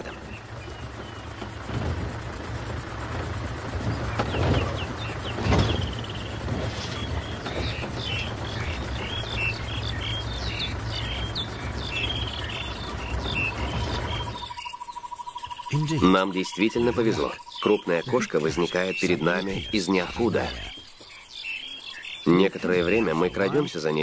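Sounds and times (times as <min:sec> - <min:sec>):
bird chirps: 0:00.0 - 0:24.0
insects droning: 0:00.0 - 0:24.0.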